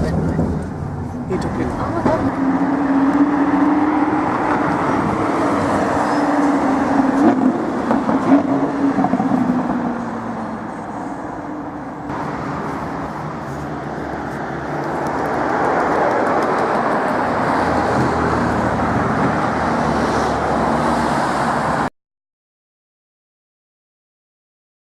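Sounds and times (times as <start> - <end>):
car engine and road noise: 0.0 - 21.9.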